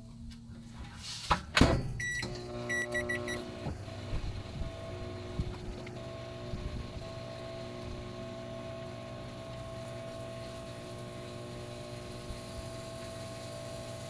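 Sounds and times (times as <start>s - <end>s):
microwave oven humming: 1.6s - 14.0s.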